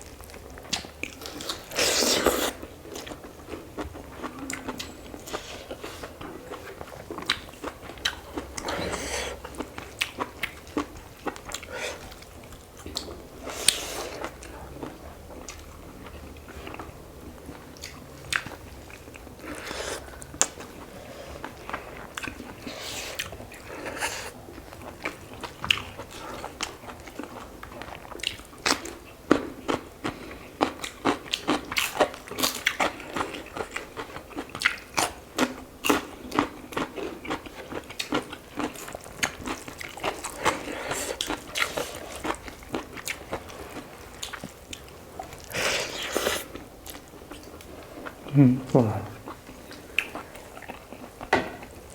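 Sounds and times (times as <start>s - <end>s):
chewing and crunching: 0.0s - 51.9s.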